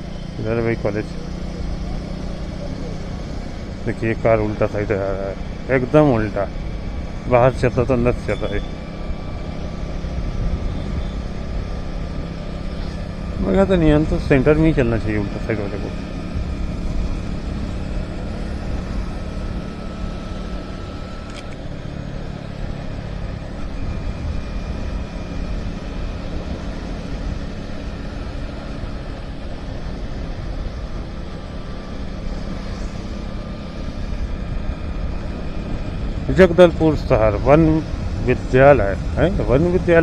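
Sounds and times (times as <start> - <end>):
motorcycle engine running: 0.0 - 40.0
road rumble: 0.0 - 40.0.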